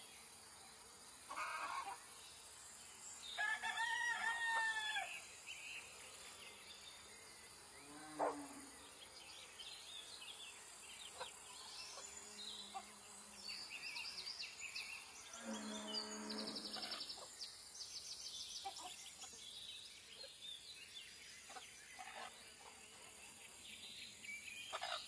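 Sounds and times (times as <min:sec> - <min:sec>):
faint insect hum: 0:00.0 - 0:25.0
birds calling and chirping: 0:01.2 - 0:25.0.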